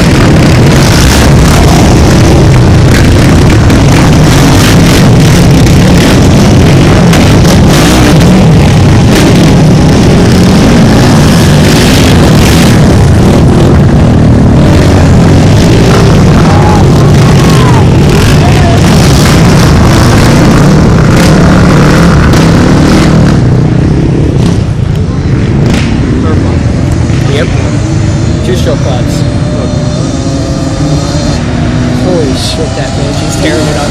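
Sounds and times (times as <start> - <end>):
engines revving together: 0.0 - 24.8, 25.5 - 33.9.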